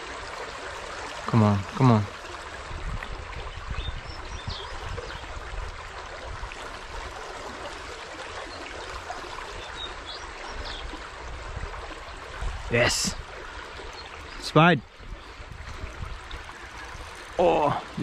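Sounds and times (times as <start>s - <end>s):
river water running over rocks: 0.0s - 18.0s.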